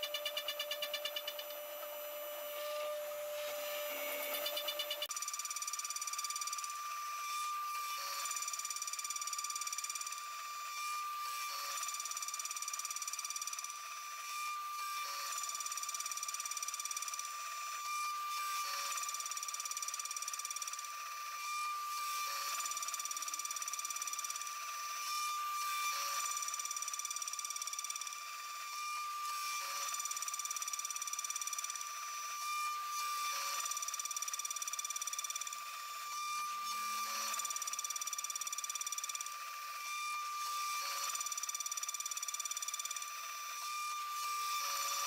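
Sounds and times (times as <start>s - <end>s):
milling machine cutting whine: 0.0s - 45.0s.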